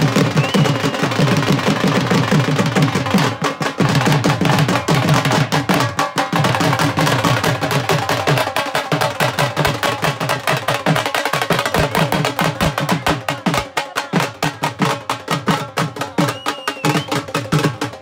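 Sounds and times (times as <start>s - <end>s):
dhol drumming: 0.0s - 18.0s.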